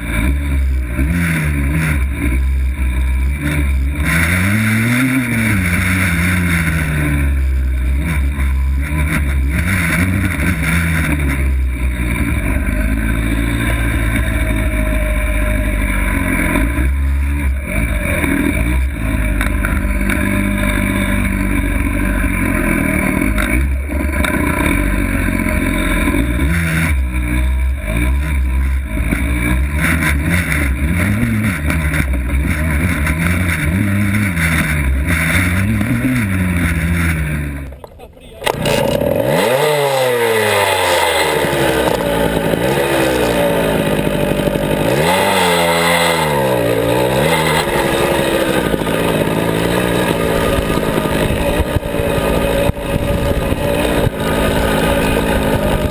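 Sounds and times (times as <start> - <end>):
two-stroke engine revving: 0.0 - 55.9.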